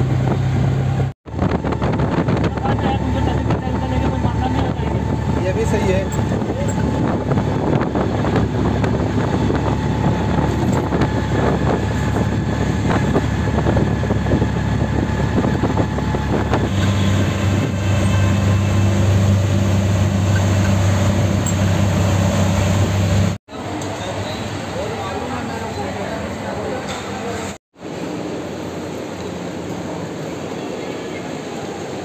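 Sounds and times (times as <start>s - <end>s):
wind and road noise: 0.0s - 32.0s.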